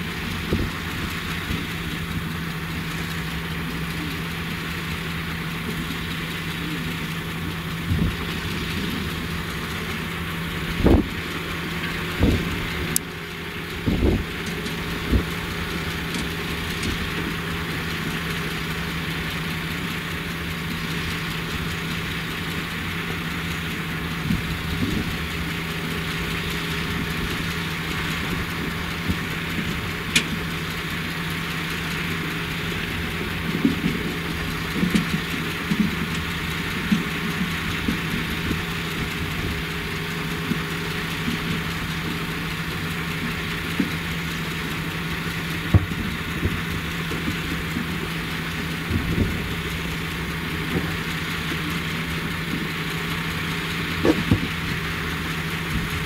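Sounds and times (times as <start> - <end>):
diesel engine hum: 0.0 - 56.0.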